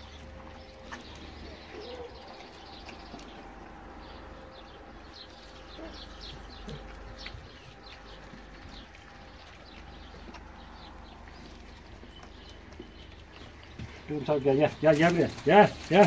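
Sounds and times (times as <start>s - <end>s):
low steady rumble: 0.0s - 16.0s
small birds chirping: 0.0s - 16.0s.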